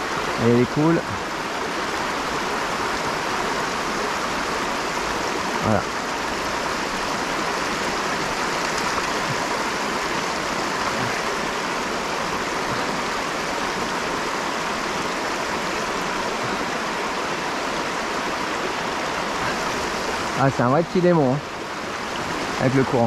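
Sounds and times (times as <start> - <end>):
river running over stones: 0.0 - 23.0.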